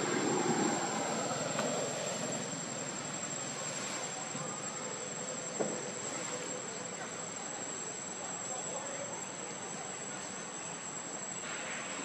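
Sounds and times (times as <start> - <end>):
hiss: 0.0 - 7.5, 9.2 - 12.0
high-pitched insect chorus: 0.0 - 12.0.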